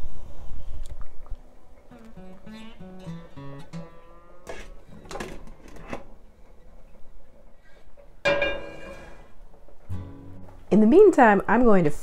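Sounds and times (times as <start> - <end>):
acoustic guitar music: 1.8 - 11.5.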